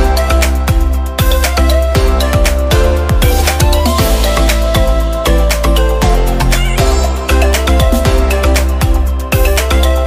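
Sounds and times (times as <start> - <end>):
dance music with thumping beat: 0.0 - 10.0.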